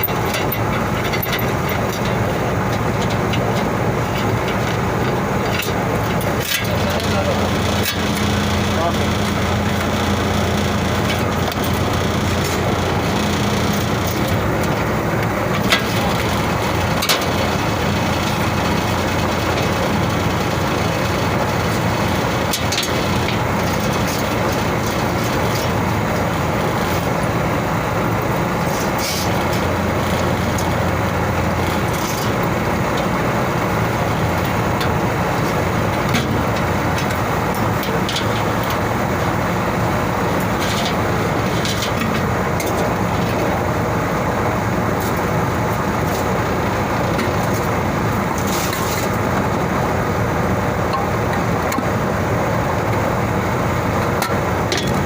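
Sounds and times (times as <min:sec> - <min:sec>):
machinery hum: 0:00.0 - 0:55.0.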